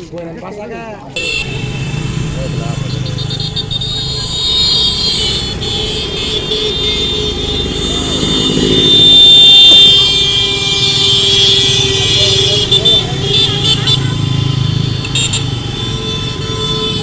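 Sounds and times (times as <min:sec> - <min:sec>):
road vehicles running: 0:00.0 - 0:17.0
vehicle horns: 0:01.1 - 0:17.0.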